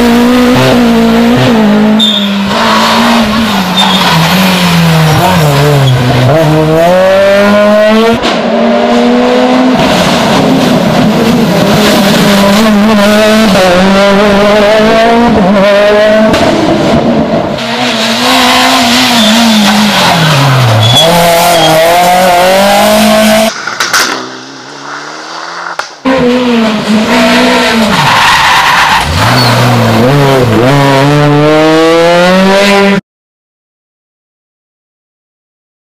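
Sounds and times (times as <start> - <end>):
rally car engines revving hard: 0.0 - 28.2, 29.0 - 33.0.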